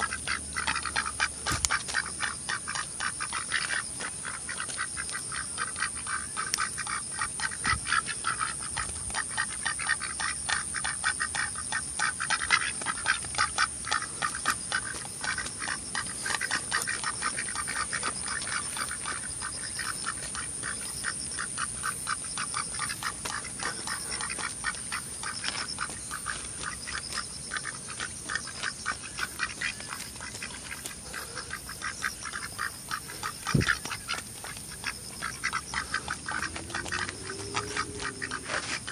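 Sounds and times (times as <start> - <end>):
ducks quacking: 0.0 - 38.9.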